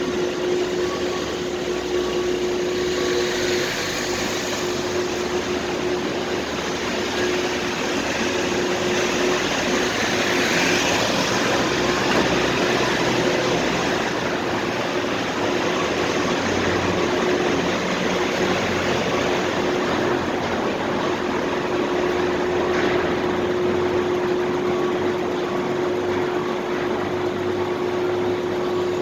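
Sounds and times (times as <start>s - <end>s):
car engines rumbling: 0.0s - 29.0s
ventilation hum: 0.0s - 29.0s.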